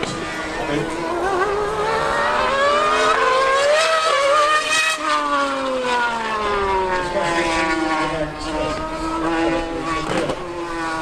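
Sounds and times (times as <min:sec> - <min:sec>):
racing engines accelerating: 0:00.0 - 0:11.0.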